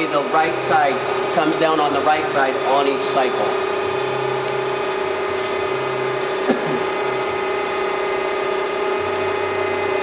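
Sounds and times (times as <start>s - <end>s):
grinder machine hum: 0.0s - 10.0s.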